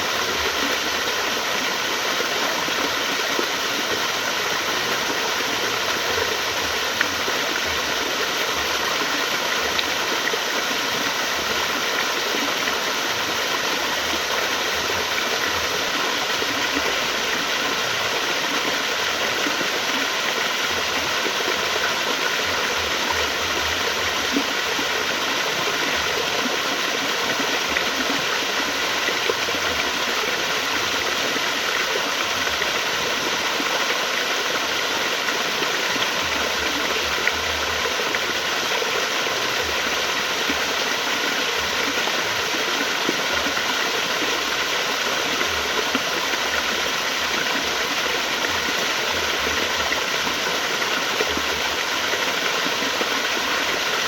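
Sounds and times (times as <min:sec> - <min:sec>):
flowing water: 0:00.0 - 0:54.0.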